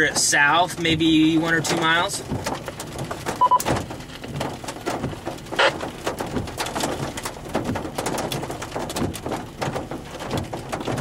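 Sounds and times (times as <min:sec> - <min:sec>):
rain on car windshield and roof: 0:00.0 - 0:11.0.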